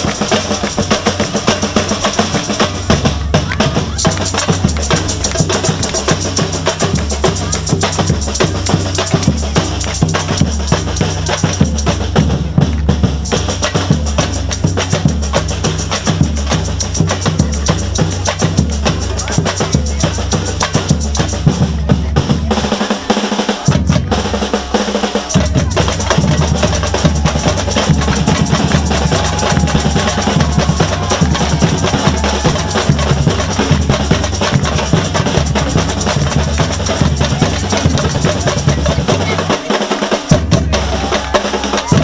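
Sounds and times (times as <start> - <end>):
bass drums beating: 0.0 - 42.0
snare drums and hand percussion: 0.0 - 42.0.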